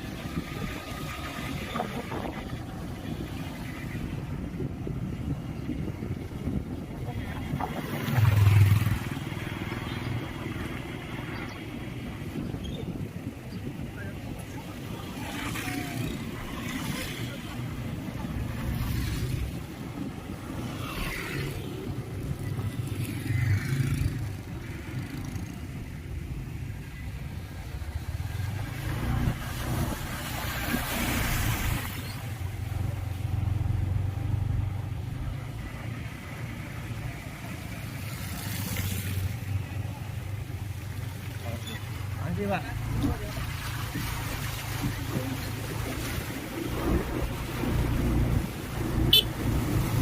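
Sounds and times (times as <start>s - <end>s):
vehicle engines humming: 0.0s - 50.0s
vehicles passing by: 0.0s - 50.0s.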